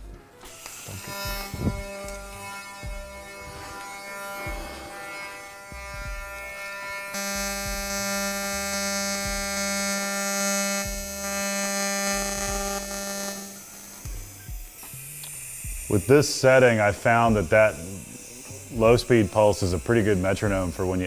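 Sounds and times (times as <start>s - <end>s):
welding arc buzzing: 0.0s - 21.0s.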